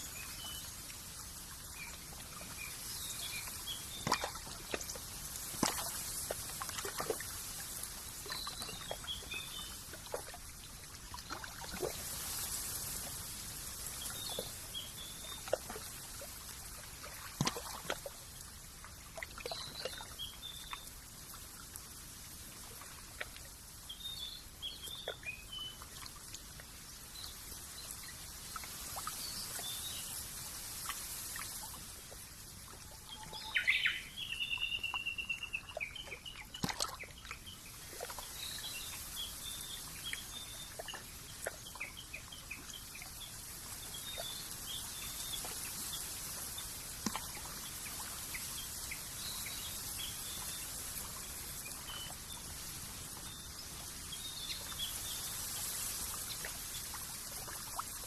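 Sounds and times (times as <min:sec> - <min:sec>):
soft outdoor hiss: 0:00.0 - 0:58.0.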